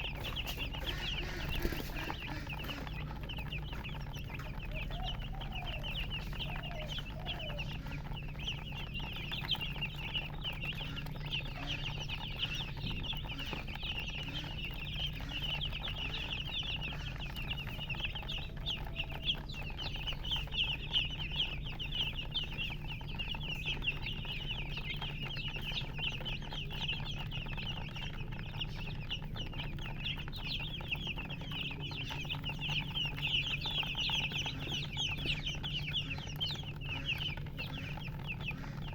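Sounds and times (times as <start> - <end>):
baby chicks peeping: 0.0 - 38.9
mother hen calling: 0.0 - 38.9
steady low hum: 0.0 - 38.9.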